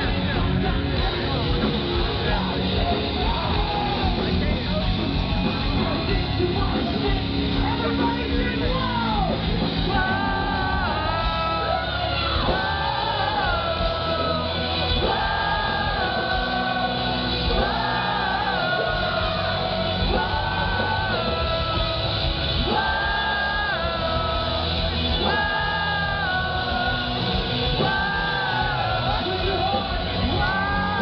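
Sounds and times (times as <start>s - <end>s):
high held melody line: 0.0s - 31.0s
live rock band playing: 0.0s - 31.0s.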